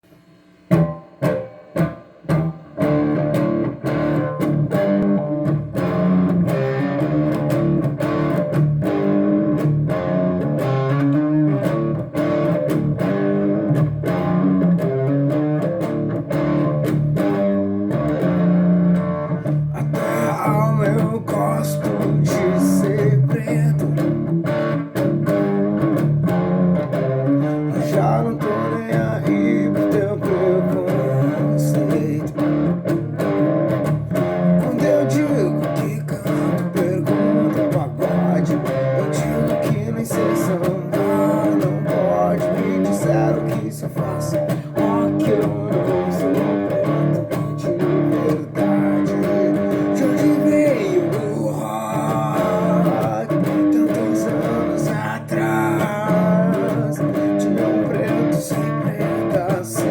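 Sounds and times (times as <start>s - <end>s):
guitar playing: 0.7s - 59.9s.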